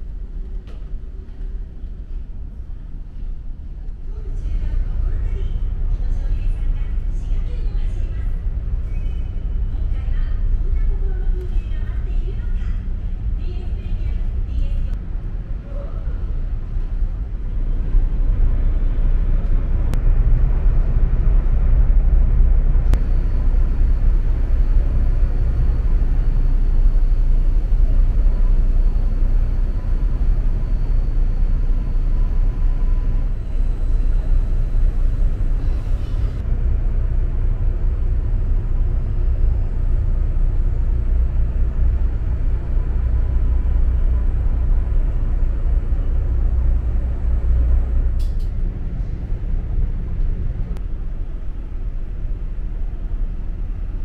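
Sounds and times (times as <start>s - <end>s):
ship engines rumbling: 0.0s - 54.0s.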